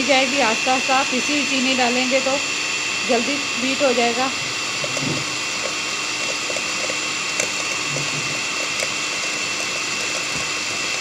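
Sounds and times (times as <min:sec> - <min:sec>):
stand mixer whisking in metal bowl: 0:00.0 - 0:11.0.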